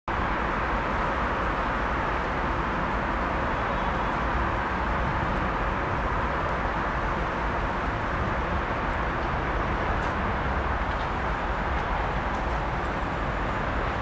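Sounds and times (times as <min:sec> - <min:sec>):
diesel locomotive rumbling: 0:00.1 - 0:14.0.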